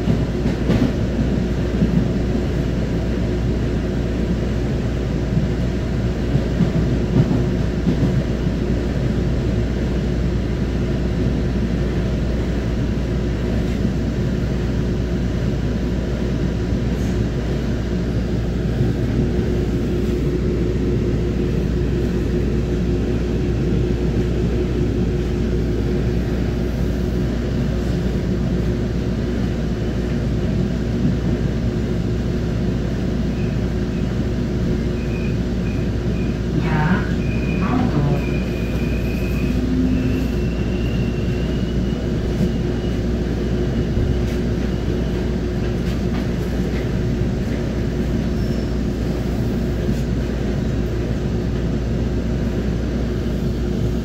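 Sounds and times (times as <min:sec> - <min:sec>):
train coach rumble and hum: 0:00.0 - 0:54.0.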